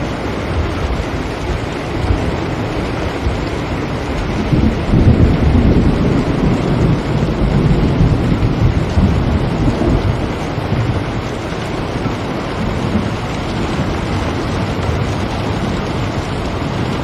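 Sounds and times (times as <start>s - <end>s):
rolling thunder rumble: 0.0s - 17.0s
steady rain falling: 0.0s - 17.0s.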